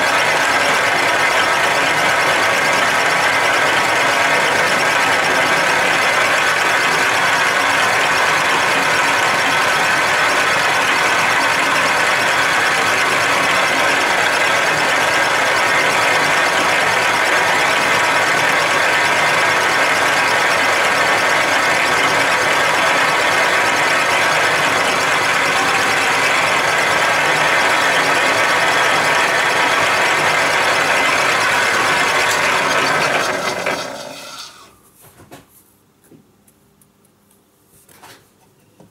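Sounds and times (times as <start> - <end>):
metal lathe whining: 0.0 - 34.7.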